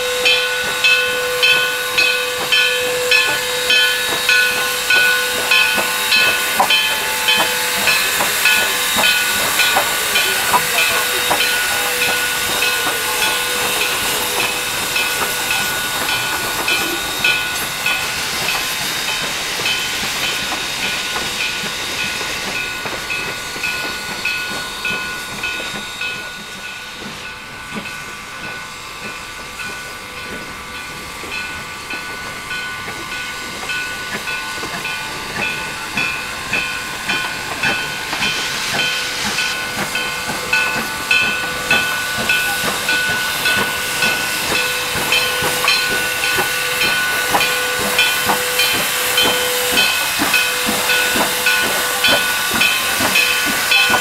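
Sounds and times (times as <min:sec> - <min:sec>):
steam hissing: 0:00.0 - 0:54.0
steam locomotive exhaust chuffs: 0:00.0 - 0:54.0.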